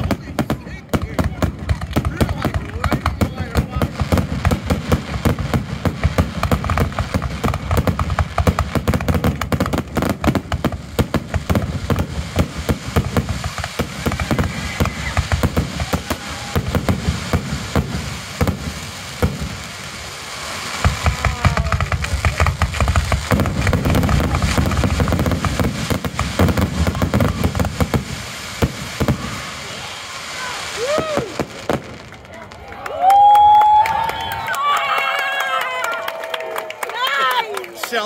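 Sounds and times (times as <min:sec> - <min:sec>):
fireworks bursting bangs: 0:00.0 - 0:34.4.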